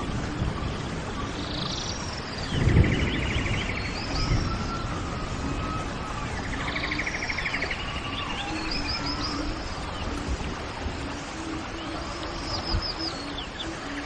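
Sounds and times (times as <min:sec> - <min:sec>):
background noise: 0:00.0 - 0:14.0
songbirds singing: 0:00.0 - 0:14.0.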